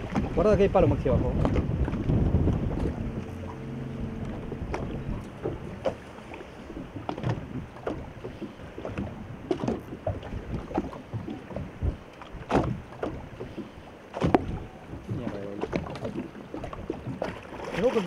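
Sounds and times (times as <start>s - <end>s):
small waves slapping boat hull: 0.0s - 18.0s.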